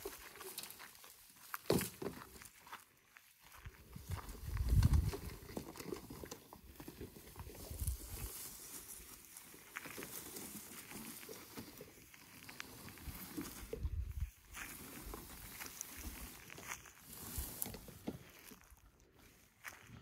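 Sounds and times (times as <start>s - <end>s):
crackling grass and twigs: 0.0s - 20.0s
footsteps in dry grass: 0.0s - 20.0s
plastic pipe dragged through grass: 4.0s - 20.0s.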